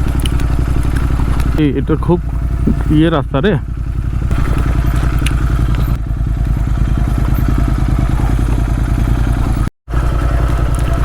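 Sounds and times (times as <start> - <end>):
motorcycle engine running: 0.0 - 11.0
motorcycle knocks and rattles: 0.0 - 11.0.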